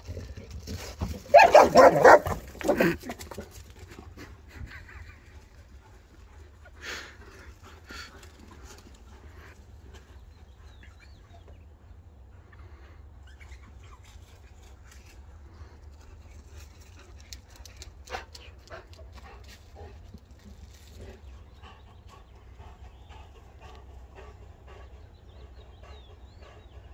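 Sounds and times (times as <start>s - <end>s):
dogs playing: 0.0s - 26.9s.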